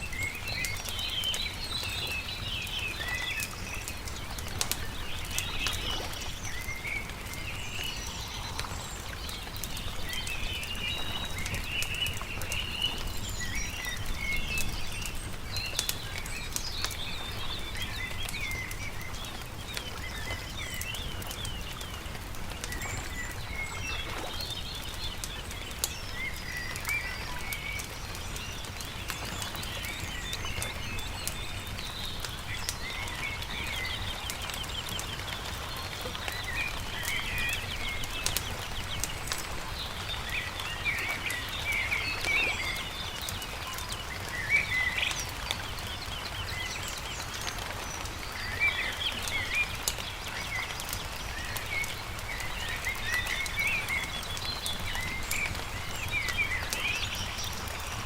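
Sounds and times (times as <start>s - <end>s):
campfire crackling and popping: 0.0s - 58.0s
small birds chirping and trilling: 0.0s - 58.0s.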